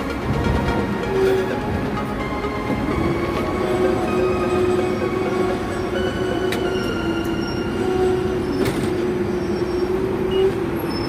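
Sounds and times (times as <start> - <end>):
electric tram whining: 0.0 - 11.0
tram wheels rumbling: 0.0 - 11.0.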